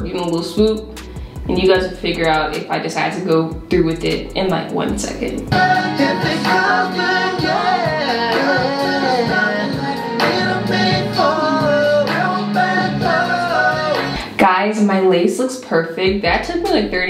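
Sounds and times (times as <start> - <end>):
song with vocals and beat: 0.0 - 2.7, 3.3 - 14.5.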